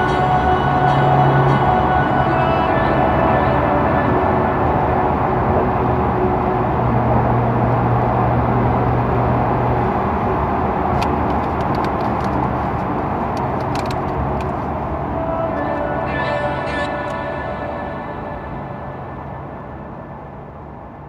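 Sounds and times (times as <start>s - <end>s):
car engine drone: 0.0s - 21.0s
road noise: 0.0s - 21.0s.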